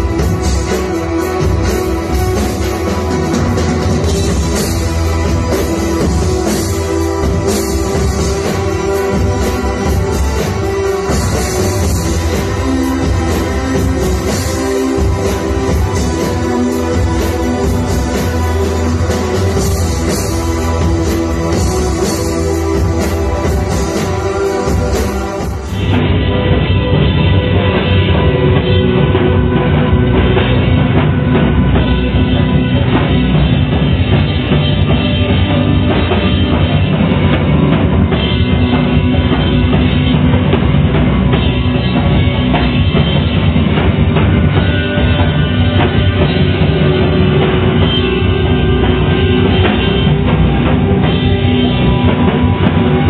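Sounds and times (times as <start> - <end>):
drumming: 0.0 - 53.0
keyboards: 0.0 - 53.0
live rock music: 0.0 - 53.0.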